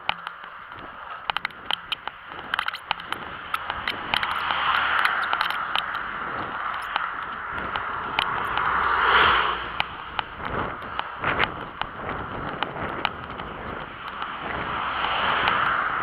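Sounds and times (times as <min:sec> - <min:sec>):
cars passing: 0:00.0 - 0:16.0
crackling clicks: 0:00.0 - 0:16.0
road noise: 0:00.0 - 0:16.0
wind on microphone: 0:00.0 - 0:16.0.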